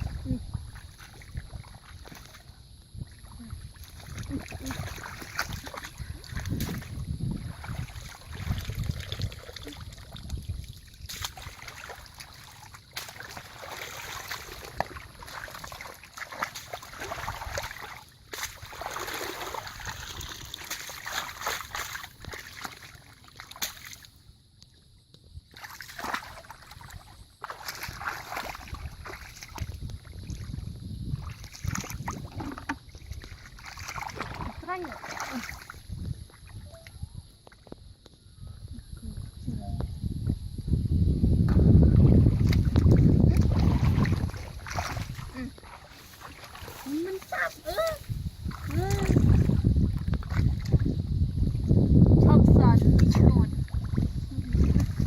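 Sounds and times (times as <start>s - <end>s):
water splashing and sloshing: 0.0s - 38.2s, 41.5s - 55.0s.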